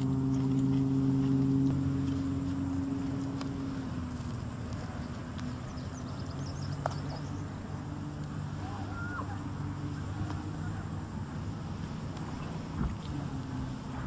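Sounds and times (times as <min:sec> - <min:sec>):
high insect buzz: 0:00.0 - 0:14.0
low motor hum: 0:00.0 - 0:14.0.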